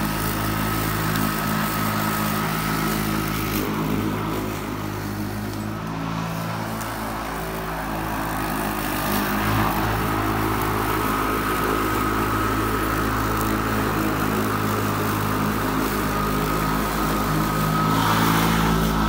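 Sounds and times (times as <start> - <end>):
electric lawn mower running: 0.0 - 19.0.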